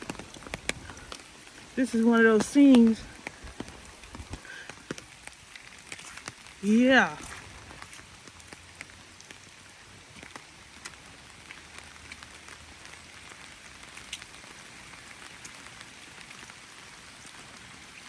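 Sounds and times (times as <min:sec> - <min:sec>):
raindrops tapping: 0:00.0 - 0:18.0
steady rain hiss: 0:00.0 - 0:18.0.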